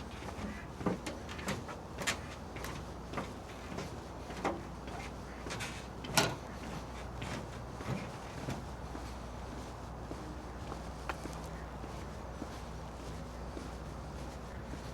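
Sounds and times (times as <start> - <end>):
footsteps walking: 0.8 - 14.9.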